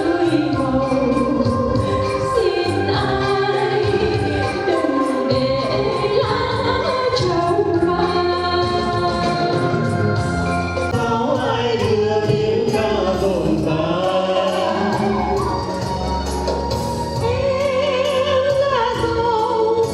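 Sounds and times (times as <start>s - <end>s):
choir singing: 0.0s - 9.9s, 11.0s - 18.2s
instrumental backing with steady beat: 0.0s - 19.9s.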